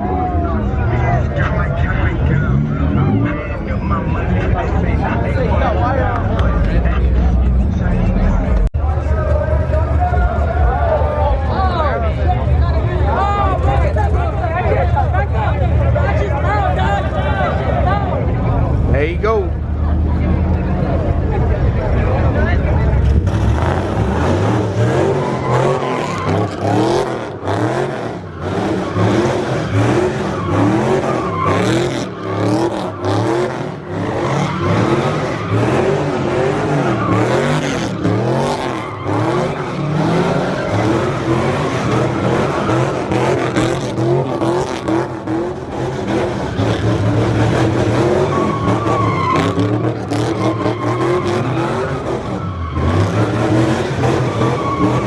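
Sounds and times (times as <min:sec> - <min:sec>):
car engine revving: 0:00.0 - 0:55.0
tyres squealing and skidding: 0:09.0 - 0:55.0.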